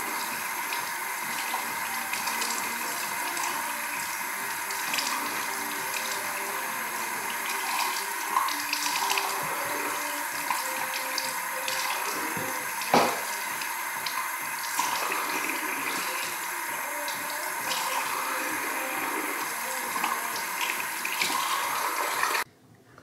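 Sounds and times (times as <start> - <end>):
faucet running: 0.0 - 22.5.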